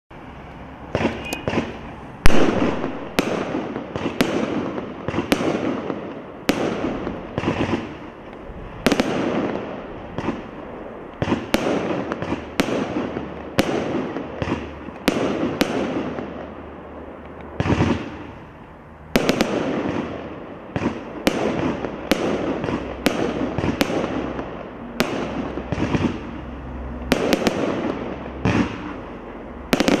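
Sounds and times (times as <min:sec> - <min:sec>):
firework shots banging: 0:00.8 - 0:18.5, 0:19.1 - 0:30.0.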